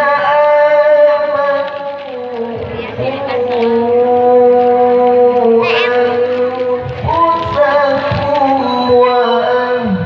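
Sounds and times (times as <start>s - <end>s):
person reciting melodically: 0.0s - 10.0s.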